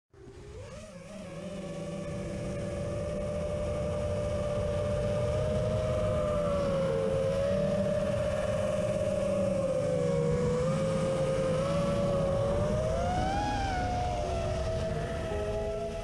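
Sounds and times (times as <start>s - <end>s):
drone propellers whining: 0.2s - 16.0s
low wind rumble: 0.2s - 16.0s.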